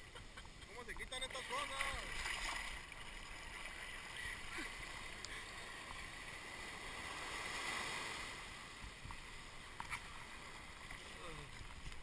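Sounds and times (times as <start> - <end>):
small waves washing on sand: 0.8 - 12.0.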